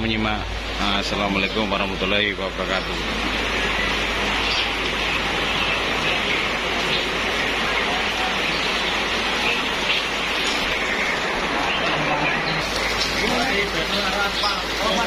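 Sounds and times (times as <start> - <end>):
heavy rain on paving: 0.0 - 15.0.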